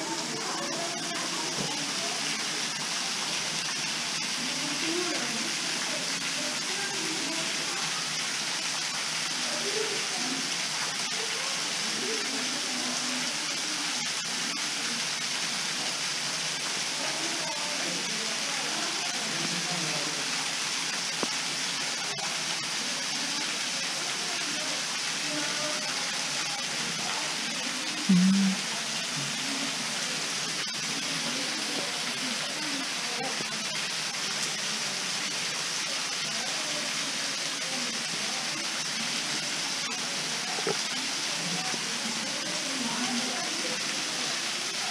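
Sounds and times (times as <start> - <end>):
rushing hiss of falling water: 0.0 - 44.9.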